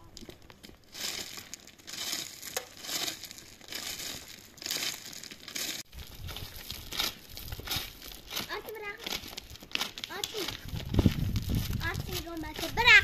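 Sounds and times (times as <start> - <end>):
loose stones crunching: 0.0 - 13.0
digging tool scraping stony soil: 0.8 - 13.0.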